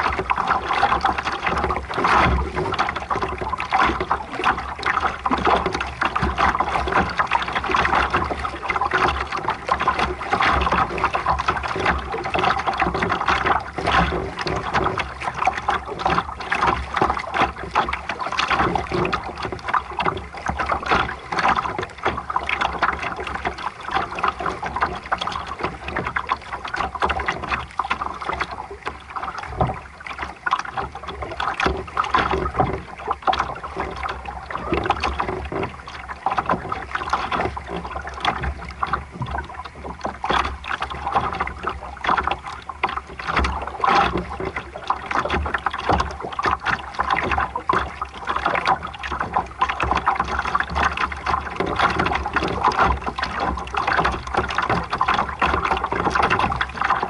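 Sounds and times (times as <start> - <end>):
water rushing against boat hull: 0.0 - 57.0.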